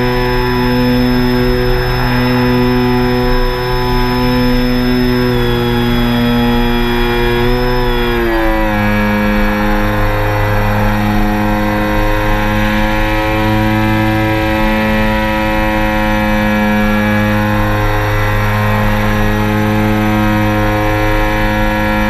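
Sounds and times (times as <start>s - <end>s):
drone motors humming: 0.0s - 22.0s.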